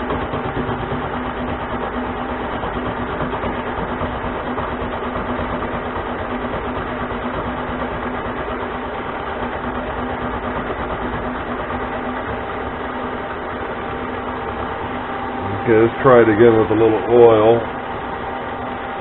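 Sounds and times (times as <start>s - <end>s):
lathe motor humming: 0.0s - 19.0s.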